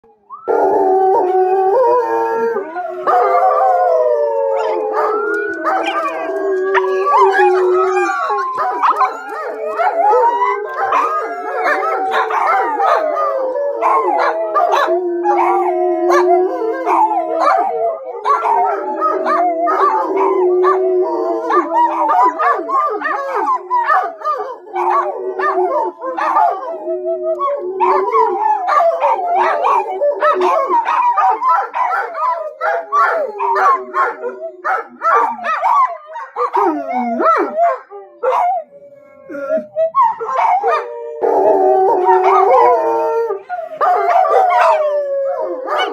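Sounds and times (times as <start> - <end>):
dogs howling: 0.4 - 45.9
dogs barking and yipping: 2.2 - 26.7, 27.3 - 38.7, 39.3 - 45.9.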